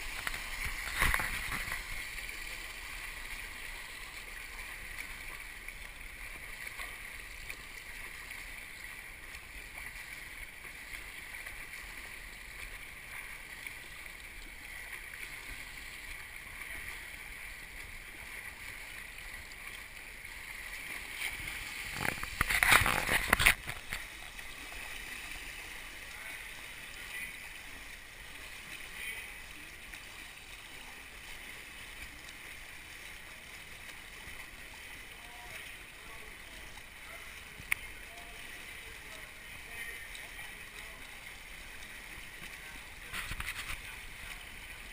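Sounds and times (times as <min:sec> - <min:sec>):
pool water lapping: 0:00.0 - 0:44.9
swimmer splashing: 0:00.0 - 0:44.9.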